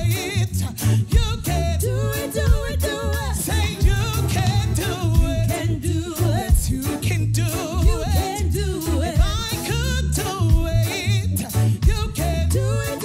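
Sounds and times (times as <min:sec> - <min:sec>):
backing singers: 0:00.0 - 0:13.0
reggae bass line and drums: 0:00.0 - 0:13.0
woman singing with vibrato: 0:00.0 - 0:13.0.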